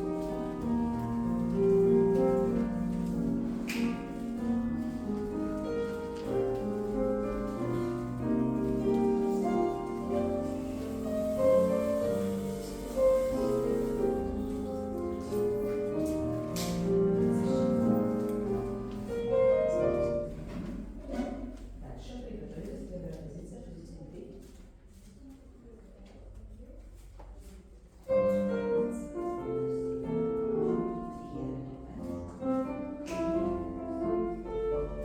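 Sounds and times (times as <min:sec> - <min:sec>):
classical piano over speaker: 0:00.0 - 0:35.0.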